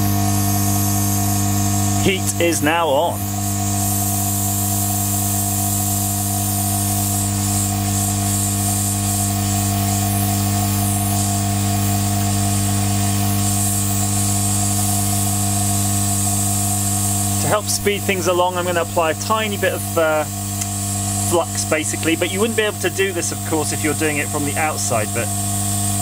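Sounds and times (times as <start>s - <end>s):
hot air gun blower hum: 0.0s - 26.0s.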